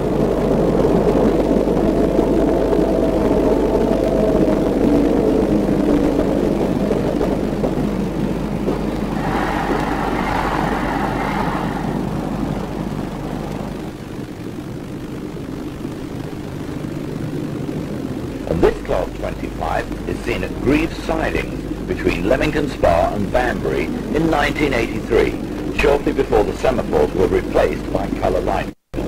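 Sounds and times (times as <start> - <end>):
train mechanical drone: 0.0 - 15.0, 18.4 - 28.6
high-pitched whine: 0.0 - 29.0.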